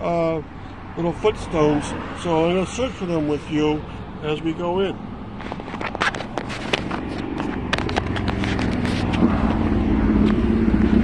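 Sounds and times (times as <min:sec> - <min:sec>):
vehicle engine approaching: 0:00.0 - 0:11.0.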